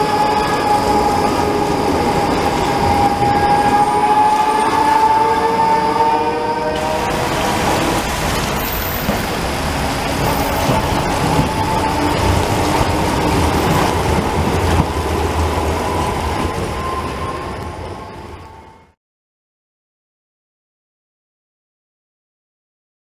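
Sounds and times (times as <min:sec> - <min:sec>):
rain hissing on wet street: 0:00.0 - 0:18.4
tram rumbling past: 0:00.0 - 0:19.0.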